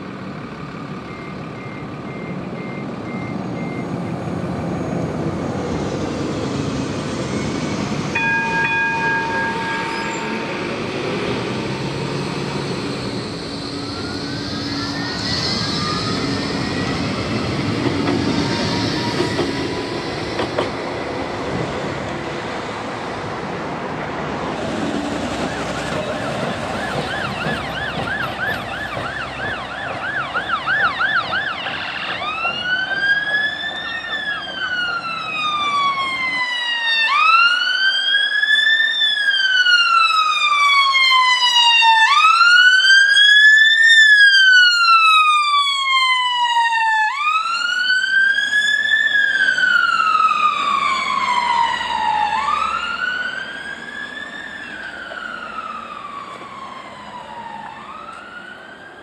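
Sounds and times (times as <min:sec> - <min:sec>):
emergency vehicle siren: 0:00.0 - 0:59.0.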